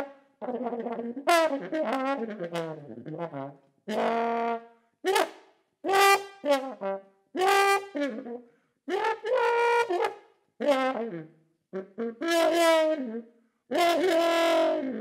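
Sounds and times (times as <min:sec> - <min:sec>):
trombone phrases: 0:00.0 - 0:05.3, 0:05.9 - 0:15.0.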